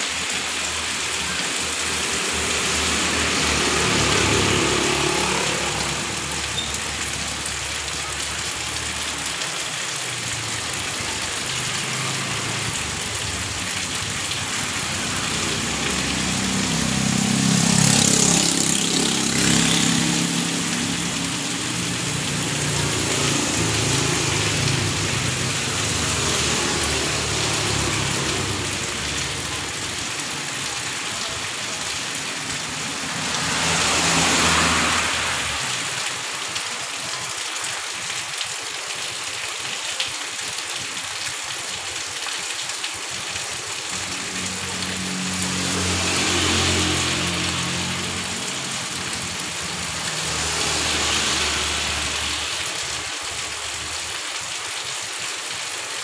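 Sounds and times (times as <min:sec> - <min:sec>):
heavy rain on street: 0:00.0 - 0:56.0
motorbikes passing on wet road: 0:00.0 - 0:56.0.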